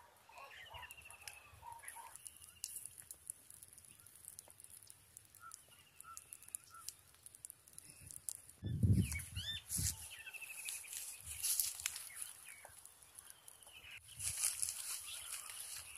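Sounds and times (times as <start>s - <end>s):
birds chirping and trilling: 0.0s - 3.1s, 3.8s - 7.2s, 7.8s - 15.9s
wood fire crackling: 0.8s - 15.9s.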